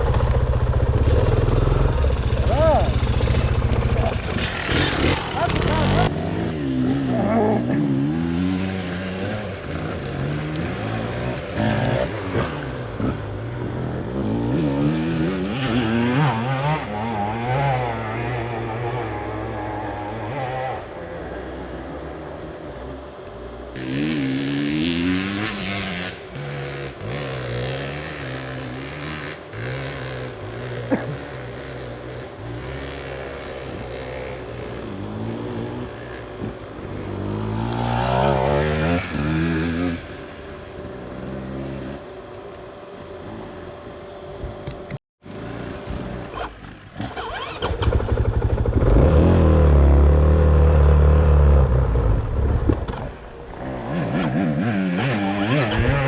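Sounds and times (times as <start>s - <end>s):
dirt bike engine revving: 0.0s - 22.0s, 23.8s - 42.1s, 45.3s - 56.0s.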